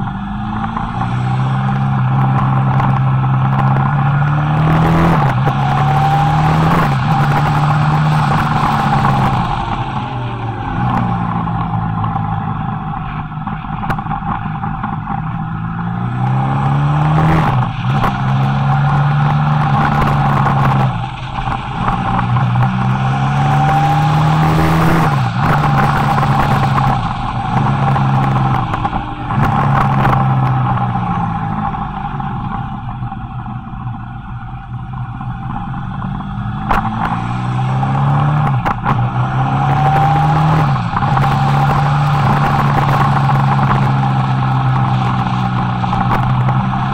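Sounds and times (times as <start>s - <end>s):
motorcycle engine revving: 0.0s - 46.9s
steady whine: 0.0s - 46.9s
wind rush: 0.0s - 46.9s.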